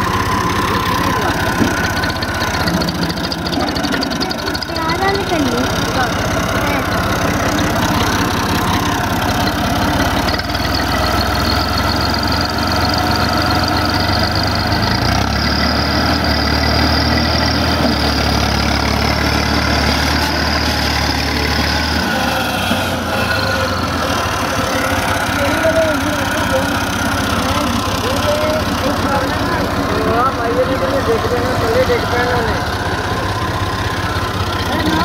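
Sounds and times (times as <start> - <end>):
tractor engine under load: 0.0 - 35.0.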